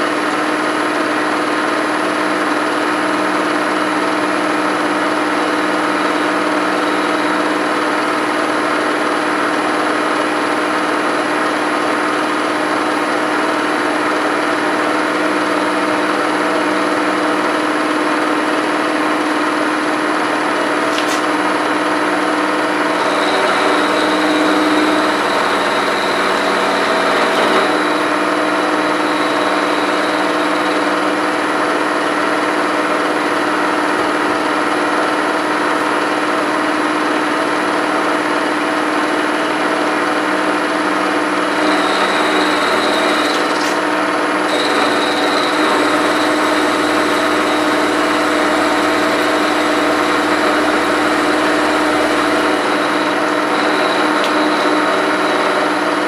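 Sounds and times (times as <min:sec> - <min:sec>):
milling machine cutting metal: 0:00.0 - 0:56.0.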